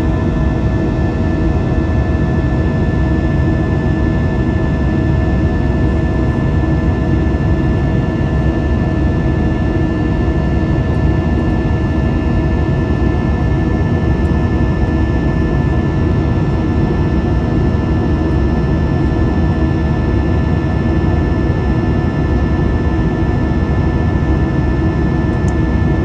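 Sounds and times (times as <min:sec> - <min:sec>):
engine and airflow roar: 0:00.0 - 0:26.0.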